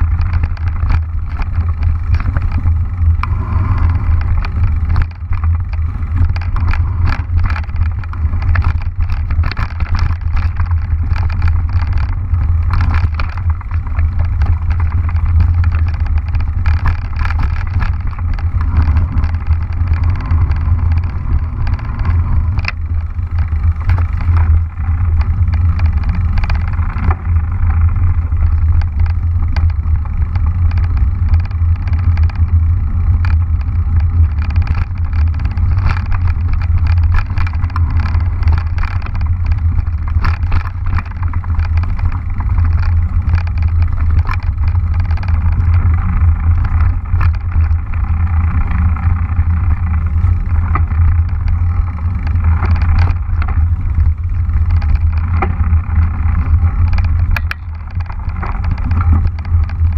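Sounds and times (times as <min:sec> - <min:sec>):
bike clicks and rattles: 0:00.0 - 0:59.9
wind rumble on microphone: 0:00.0 - 0:59.9.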